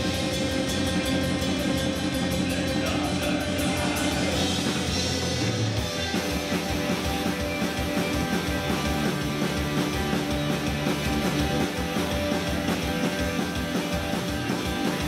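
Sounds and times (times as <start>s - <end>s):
drums with steady beat: 0.0s - 15.0s
electric guitar: 0.0s - 15.0s.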